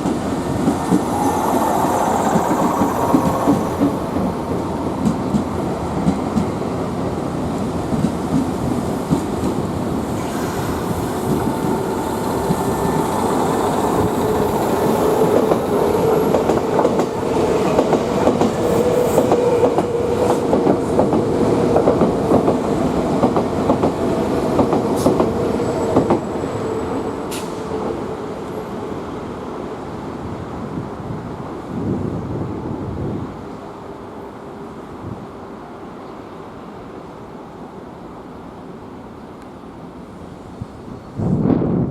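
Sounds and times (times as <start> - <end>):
electric train hum: 0.0 - 41.9.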